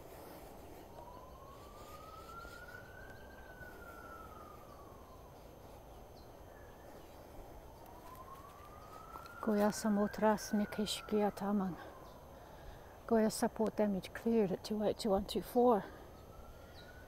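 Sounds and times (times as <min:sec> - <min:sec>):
faint siren wailing: 0:00.0 - 0:17.0
outdoor background hiss: 0:00.0 - 0:17.0.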